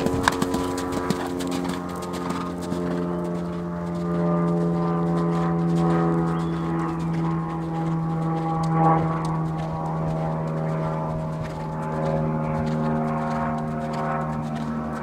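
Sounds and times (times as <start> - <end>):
engine drone: 0.0 - 15.0
horse hoofbeats cantering: 0.0 - 15.0.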